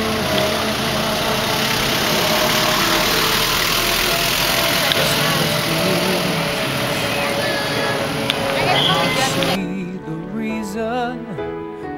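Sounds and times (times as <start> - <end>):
van engine driving off: 0.0 - 9.6.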